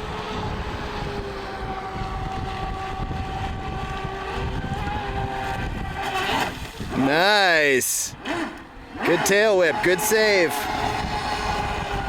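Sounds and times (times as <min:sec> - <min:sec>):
toy boat motor whining: 0:00.0 - 0:12.0
wind rumble on microphone: 0:00.0 - 0:12.0.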